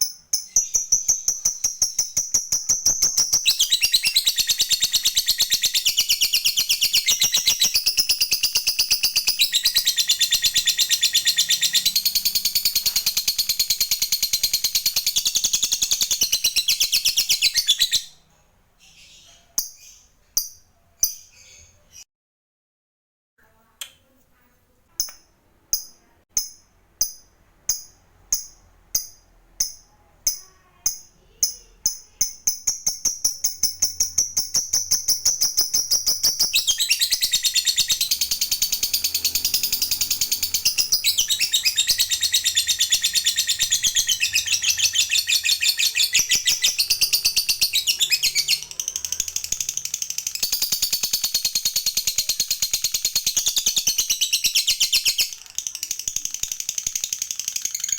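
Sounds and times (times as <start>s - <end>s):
lovebird chattering trill: 0.0s - 18.1s, 27.7s - 57.9s.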